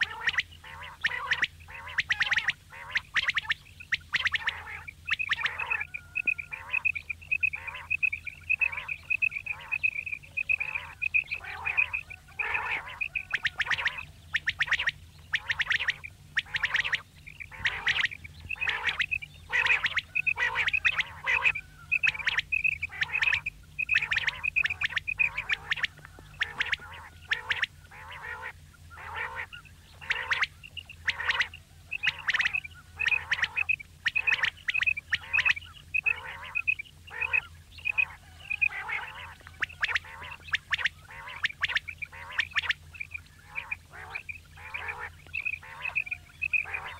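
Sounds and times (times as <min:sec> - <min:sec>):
quail calling: 0:00.0 - 0:46.9.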